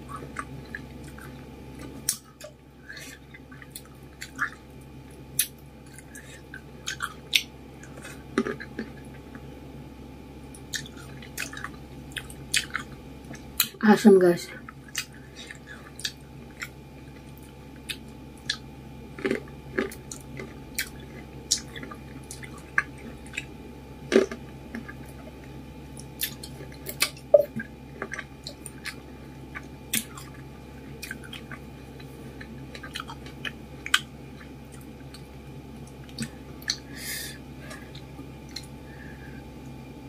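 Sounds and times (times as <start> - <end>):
person chewing grapes: 0.0 - 9.4, 10.5 - 13.8, 14.6 - 39.4.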